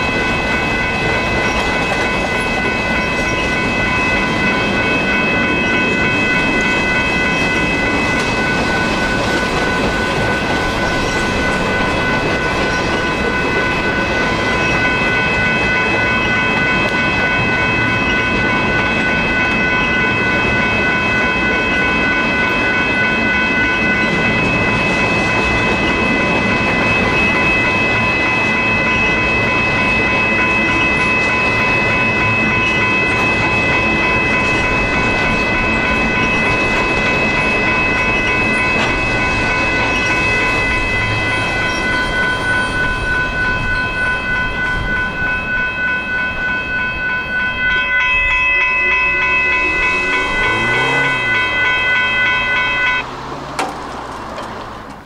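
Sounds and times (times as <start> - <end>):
high-pitched tones: 0.0 - 53.4
freight train wheels on rails: 0.0 - 55.0.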